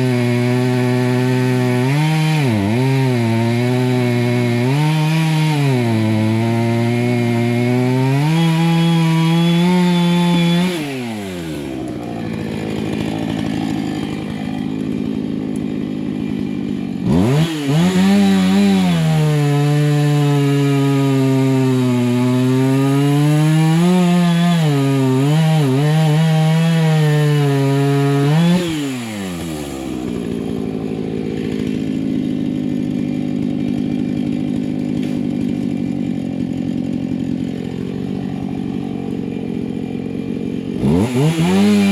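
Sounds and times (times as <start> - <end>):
chainsaw revving and idling: 0.0 - 41.9.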